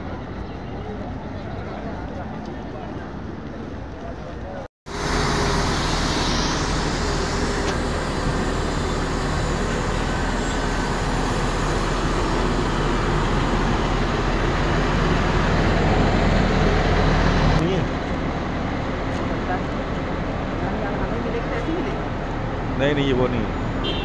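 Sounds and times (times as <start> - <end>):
bus engine humming: 0.0 - 24.0
street traffic noise: 0.0 - 24.0.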